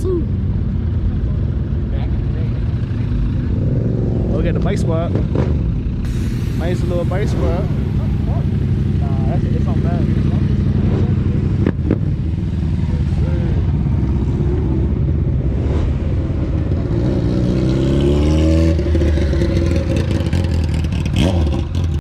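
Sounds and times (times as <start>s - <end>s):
car engine revving: 2.2s - 22.0s.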